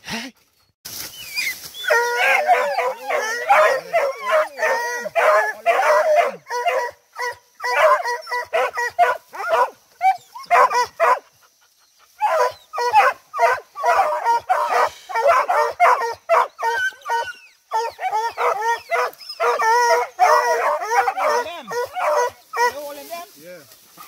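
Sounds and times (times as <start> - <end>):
hounds baying and yelping: 0.4 - 23.2.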